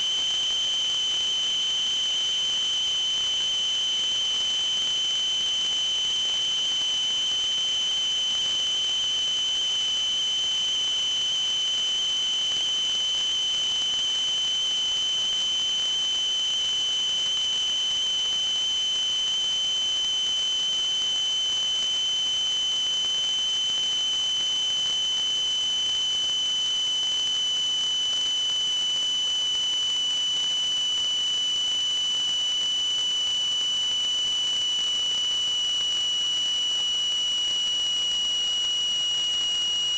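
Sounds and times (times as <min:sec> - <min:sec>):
high-pitched electronic whine: 0:00.0 - 0:39.9.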